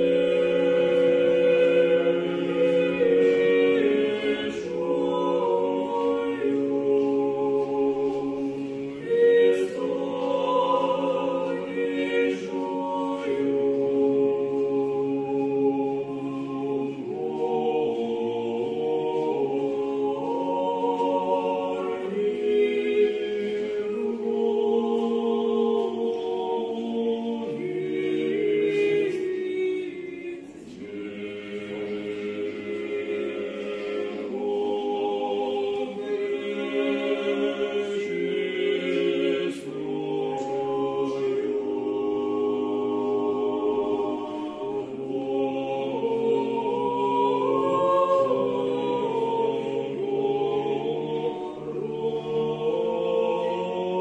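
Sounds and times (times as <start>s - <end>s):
choir singing chant: 0.0s - 54.0s.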